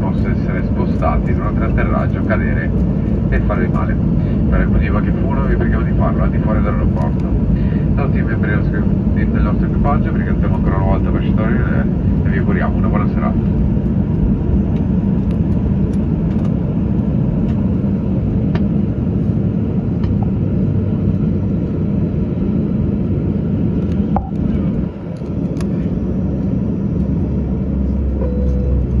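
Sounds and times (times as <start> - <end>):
jet engine cabin rumble: 0.0 - 29.0
steady low hum: 0.0 - 29.0.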